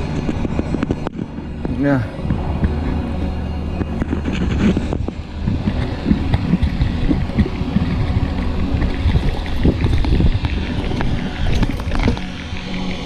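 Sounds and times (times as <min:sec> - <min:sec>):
low tyre rumble: 0:00.0 - 0:13.0
wind on microphone: 0:00.0 - 0:13.0.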